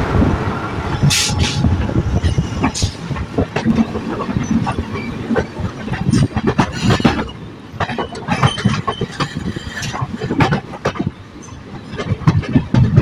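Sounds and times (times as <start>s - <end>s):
steady train rumble: 0.0s - 13.0s
train wheels clattering over rail joints: 0.9s - 13.0s.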